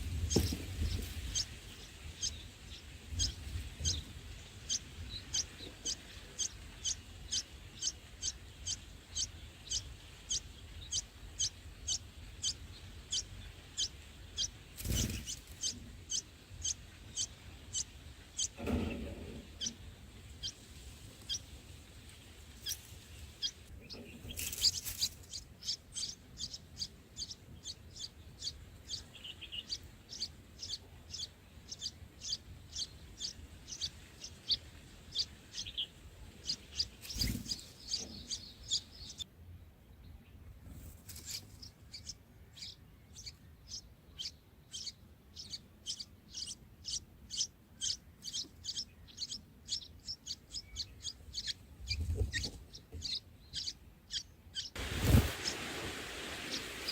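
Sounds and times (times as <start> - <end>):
bulbuls chirping: 0.0 - 39.3, 40.0 - 56.9.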